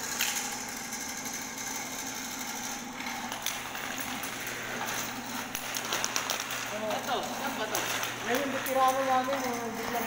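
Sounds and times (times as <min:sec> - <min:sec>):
drain-cleaning machine running: 0:00.0 - 0:10.0.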